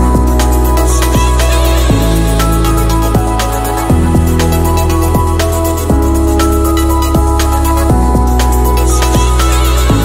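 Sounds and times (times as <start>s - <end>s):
electronic music with bass: 0.0s - 10.0s.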